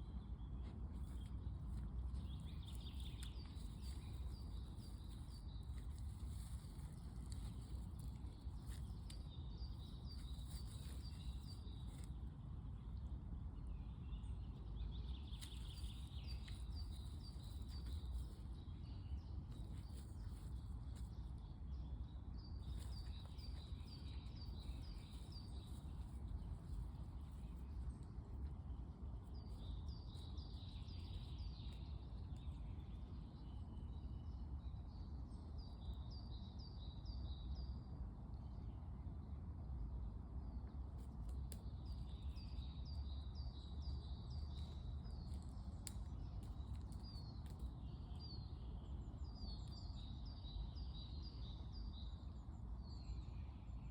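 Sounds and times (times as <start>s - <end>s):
songbird singing: 0.0s - 39.4s, 40.0s - 53.9s.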